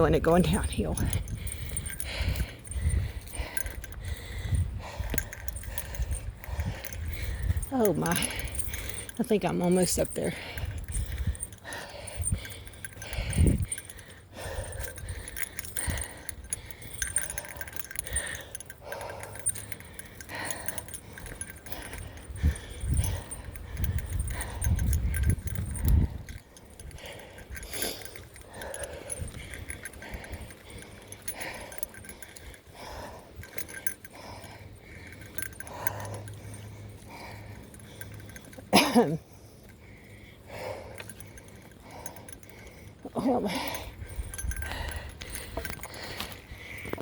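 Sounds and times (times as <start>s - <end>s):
bell jingling with steps: 0.0s - 47.0s
heavy breathing: 0.0s - 47.0s.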